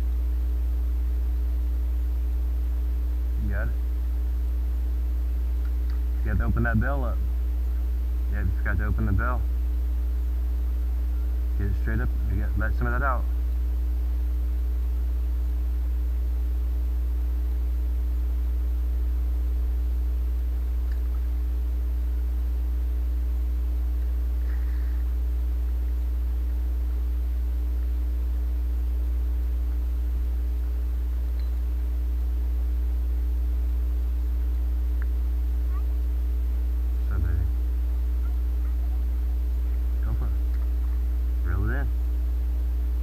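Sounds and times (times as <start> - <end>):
faint steady tones: 0.0 - 43.0
low electrical hum: 0.0 - 43.0.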